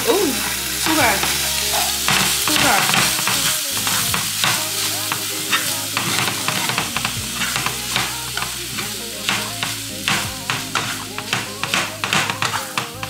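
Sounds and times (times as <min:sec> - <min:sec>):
meat sizzling in a frying pan: 0:00.1 - 0:13.0
wooden spatula scraping a pan: 0:00.9 - 0:13.0.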